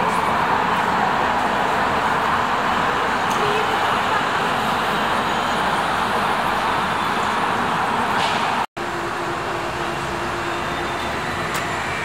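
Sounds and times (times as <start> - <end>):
road traffic noise: 0.0 - 12.0
trolleybus moving past: 0.0 - 12.0.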